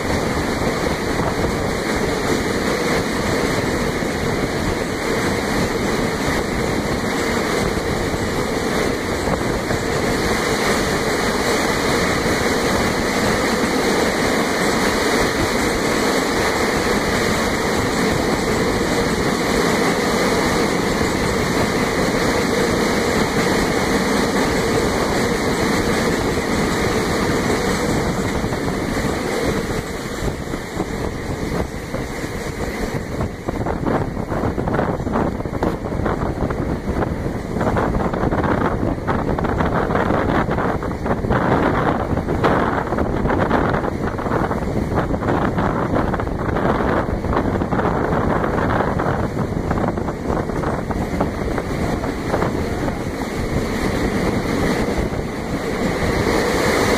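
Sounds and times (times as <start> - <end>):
train wheels on rail in tunnel: 0.0 - 56.9.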